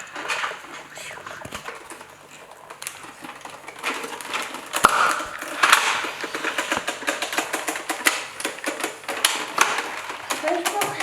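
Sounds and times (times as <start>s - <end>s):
plastic pieces clicking and clattering: 0.0s - 0.8s, 1.4s - 11.0s.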